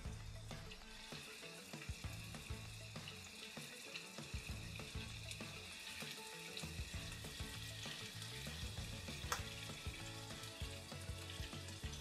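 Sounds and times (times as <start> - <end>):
meatballs sizzling in hot oil: 0.0 - 12.0.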